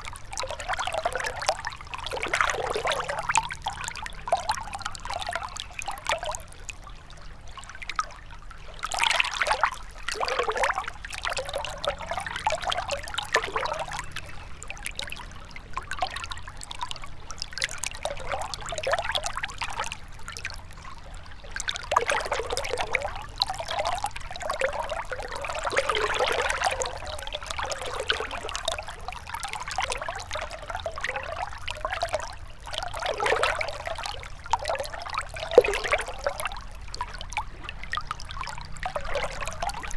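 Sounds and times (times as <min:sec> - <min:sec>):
river water trickling over stones: 0:00.0 - 0:39.9.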